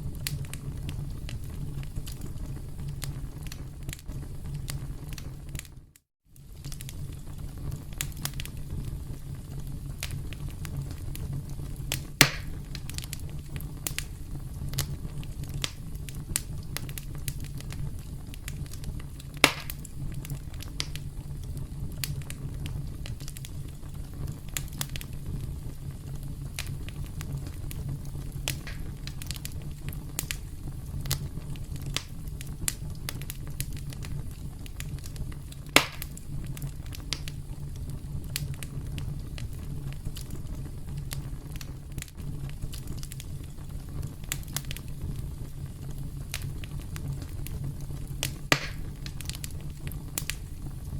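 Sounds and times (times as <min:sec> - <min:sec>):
campfire crackling: 0:00.0 - 0:50.9
fire popping: 0:00.0 - 0:50.9
low rumble of flames: 0:00.0 - 0:50.9.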